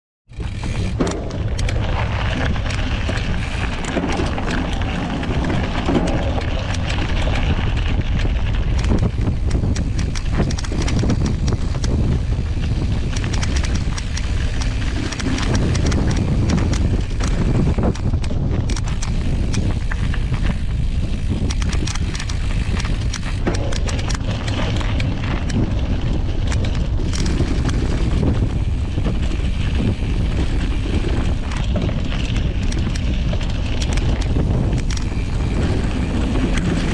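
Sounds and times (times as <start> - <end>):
bike clattering over stones: 0.3 - 36.9
bike tyre crunching over gravel: 0.3 - 36.9
wind rumbling on microphone: 0.3 - 36.9.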